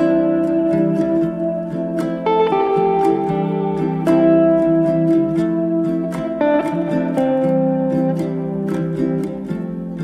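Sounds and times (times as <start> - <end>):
plucked guitar-like music: 0.0 - 10.0.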